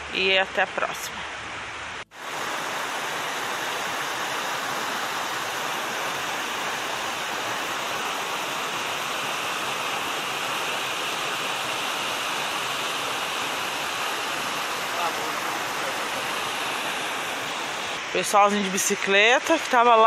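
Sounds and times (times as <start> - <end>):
stream rushing over rocks: 0.4 - 20.0.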